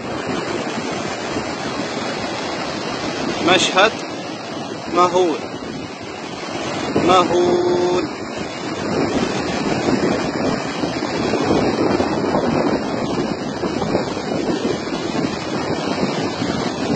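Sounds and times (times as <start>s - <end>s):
waterfall roaring: 0.0s - 16.9s.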